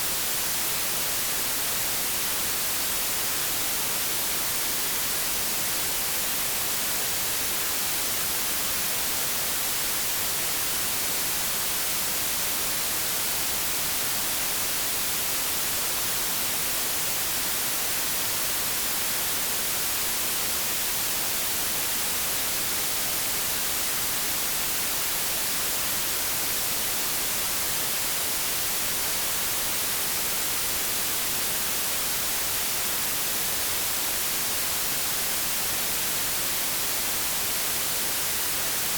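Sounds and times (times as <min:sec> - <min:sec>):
white noise static hiss: 0:00.0 - 0:38.9.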